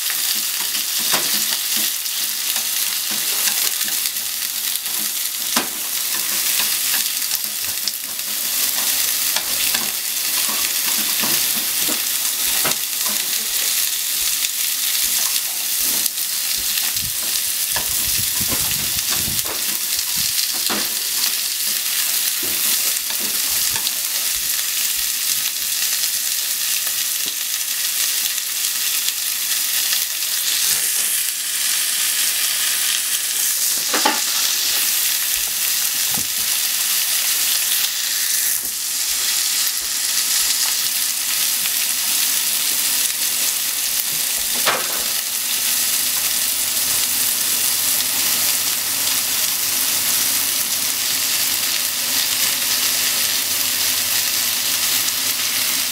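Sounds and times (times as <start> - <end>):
onions sizzling in frying pan: 0.0 - 55.9.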